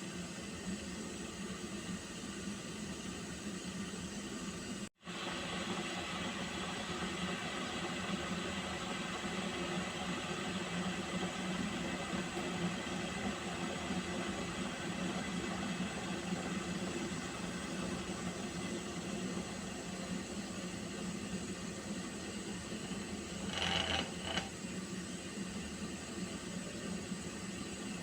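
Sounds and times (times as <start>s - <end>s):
water heating in a pot: 0.0s - 28.0s.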